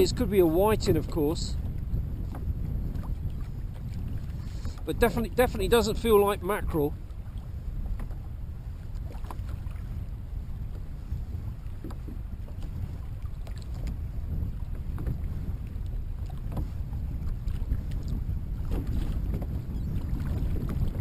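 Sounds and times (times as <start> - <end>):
water lapping against kayak hull: 0.0 - 21.0
wind buffeting microphone: 0.0 - 21.0.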